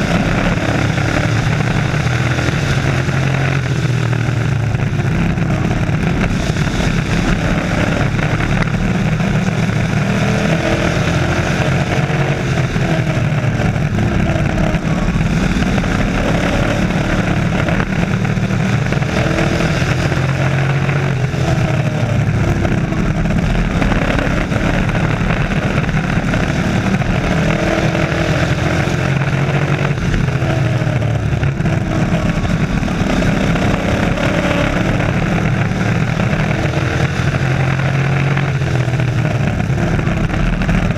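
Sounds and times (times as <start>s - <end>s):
race truck engines revving: 0.0s - 40.9s.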